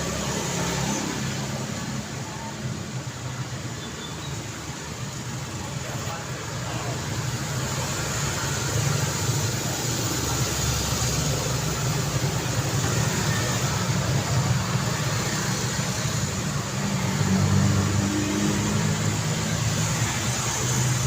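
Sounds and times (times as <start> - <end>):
car engines passing: 0.0 - 21.0
road noise hum: 0.0 - 21.0.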